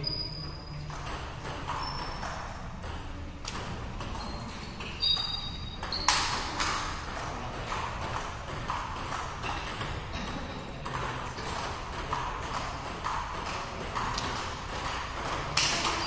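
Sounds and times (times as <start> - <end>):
table tennis ball clicks: 0.9 - 10.0, 10.8 - 16.0.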